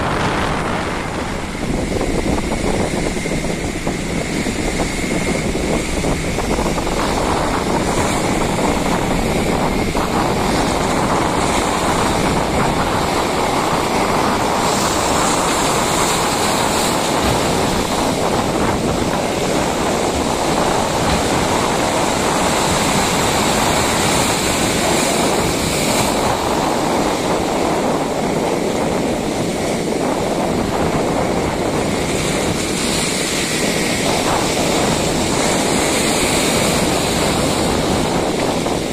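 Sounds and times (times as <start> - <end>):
sea surf breaking: 0.0 - 38.9
wind rushing over microphone: 0.0 - 38.9.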